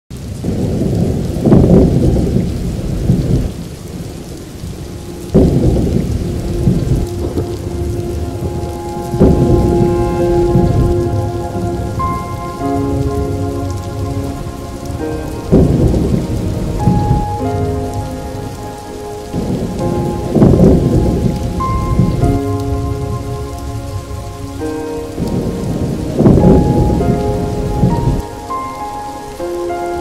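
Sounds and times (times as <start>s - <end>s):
steady rain: 0.1s - 30.0s
thunder rolling: 0.3s - 28.4s
slow music with held notes: 4.2s - 30.0s.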